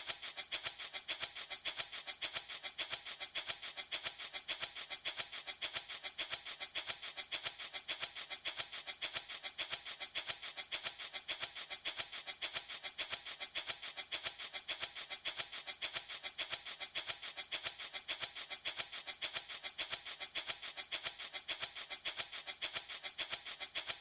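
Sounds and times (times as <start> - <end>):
wooden baby rattle shaking: 0.0 - 24.0.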